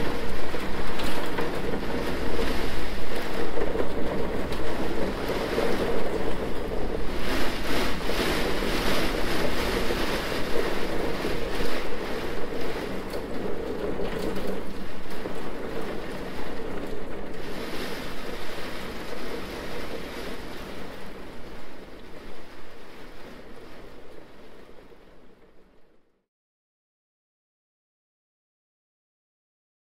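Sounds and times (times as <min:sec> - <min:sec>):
rain and wind hiss: 0:00.0 - 0:26.0.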